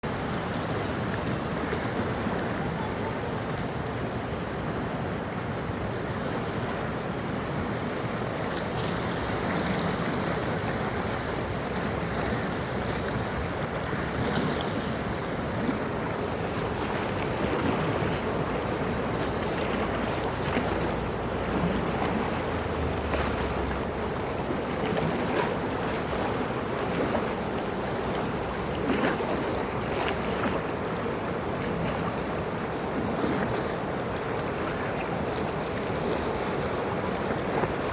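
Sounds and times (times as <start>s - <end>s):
water splashes: 0.0s - 4.1s, 6.0s - 37.9s
river water rushing and lapping: 0.0s - 37.9s.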